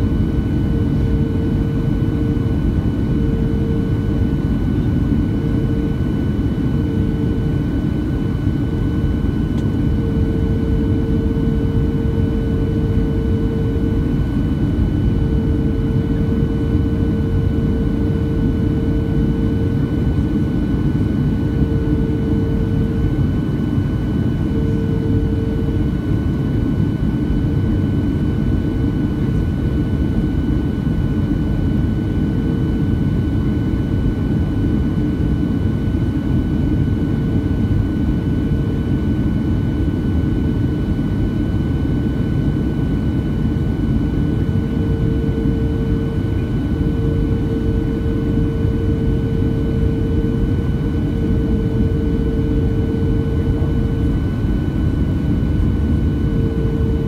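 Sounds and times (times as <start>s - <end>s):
low hum: 0.0s - 32.7s, 42.0s - 57.0s
airflow rushing in aircraft cabin: 0.0s - 57.0s
jet engines: 0.0s - 57.0s.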